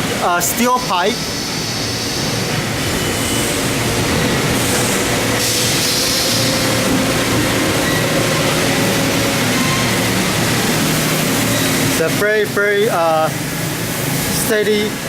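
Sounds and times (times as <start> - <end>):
hydraulic machine hum and hiss: 0.0 - 15.0.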